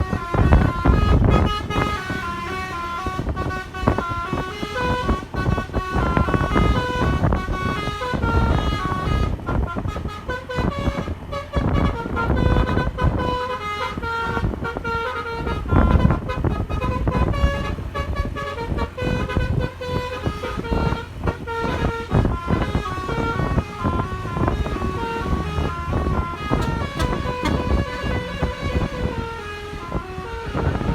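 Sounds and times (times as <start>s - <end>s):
musical bus air horn: 0.0s - 30.9s.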